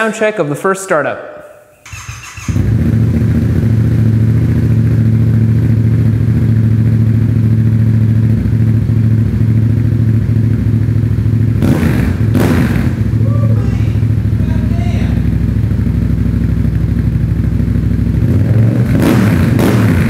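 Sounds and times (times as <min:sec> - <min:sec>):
motorcycle engine idling loudly: 0:01.9 - 0:20.0.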